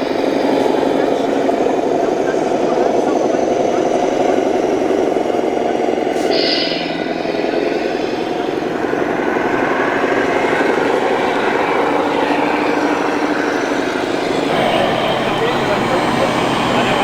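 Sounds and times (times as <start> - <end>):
fast-pulsing motor drone: 0.0 - 17.0.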